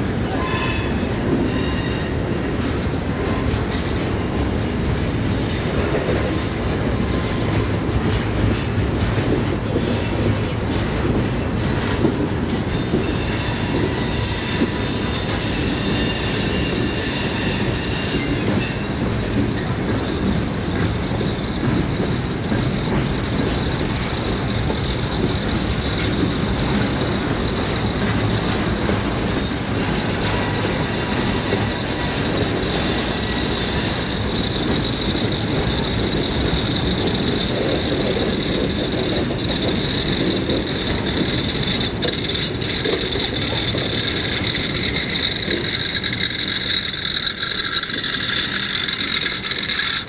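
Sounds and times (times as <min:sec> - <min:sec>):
freight train wheels rumbling: 0:00.0 - 0:50.0
high wheel squeal: 0:00.2 - 0:03.9, 0:11.4 - 0:50.0.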